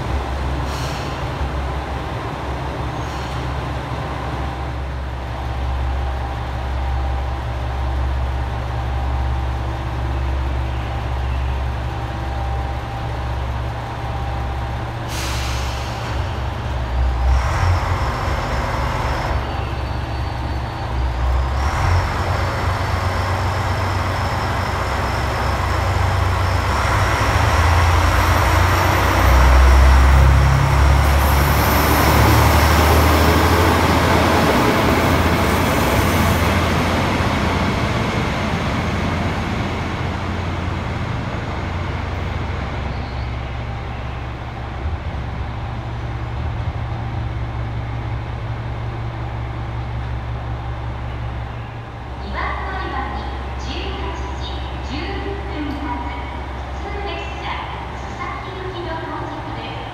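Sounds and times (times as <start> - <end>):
diesel railcar engine revving: 0.0 - 59.9.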